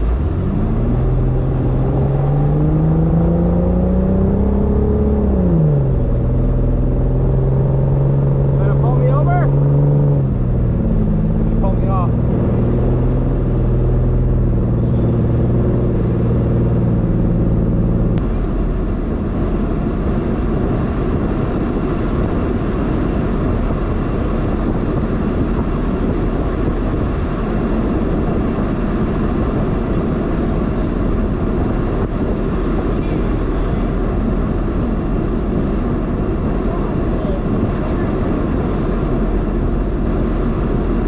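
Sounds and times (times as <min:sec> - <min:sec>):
rough rumble: 0:00.0 - 0:41.0
vehicle engine idling: 0:00.0 - 0:41.0.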